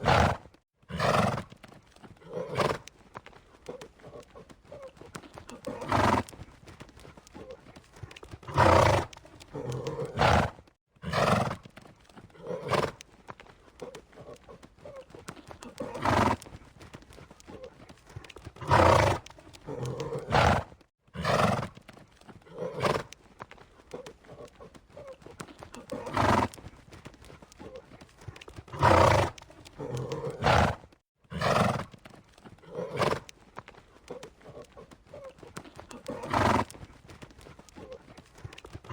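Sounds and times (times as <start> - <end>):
horse calling: 0.0 - 11.6, 12.2 - 38.9
hooves clopping: 0.0 - 38.9.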